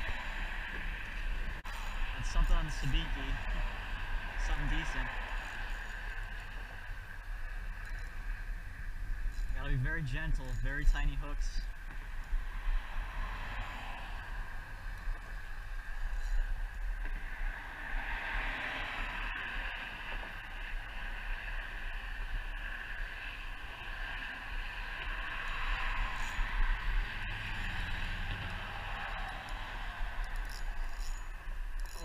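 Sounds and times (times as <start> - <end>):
wind rumble on microphone: 0.0 - 32.0.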